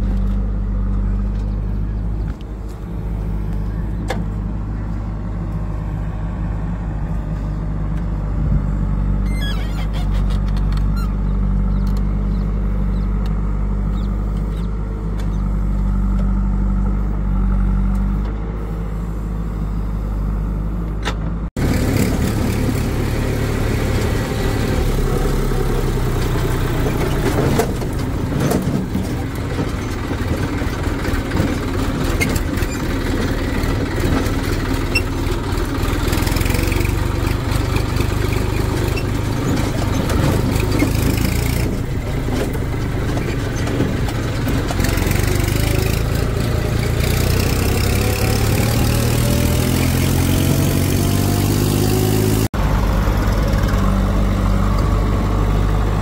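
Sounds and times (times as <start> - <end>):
rattling over rough track: 0.0 - 18.8, 20.9 - 56.0
tractor diesel engine running: 0.0 - 56.0.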